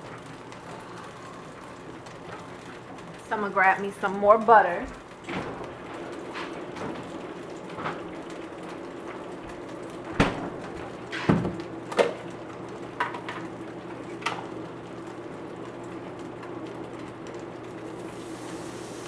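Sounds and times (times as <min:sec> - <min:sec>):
frying pan sizzling: 0:00.0 - 0:19.0.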